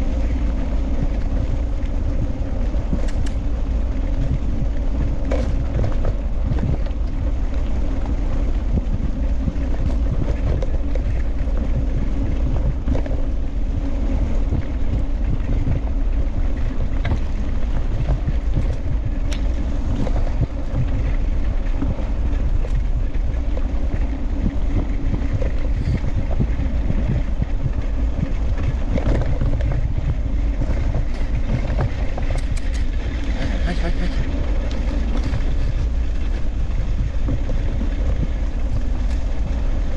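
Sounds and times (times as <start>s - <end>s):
tyres rolling on dirt: 0.0s - 39.9s
wind on microphone: 0.0s - 39.9s
scooter clicks and knocks: 0.2s - 13.4s, 14.4s - 39.9s.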